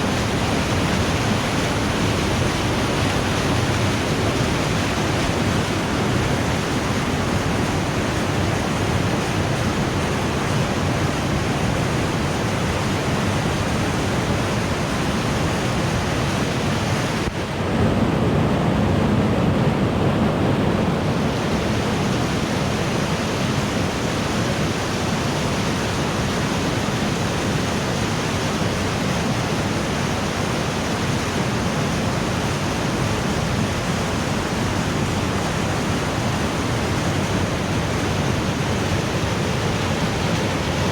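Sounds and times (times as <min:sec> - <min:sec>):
waterfall rushing: 0:00.0 - 0:18.1, 0:20.9 - 0:40.9.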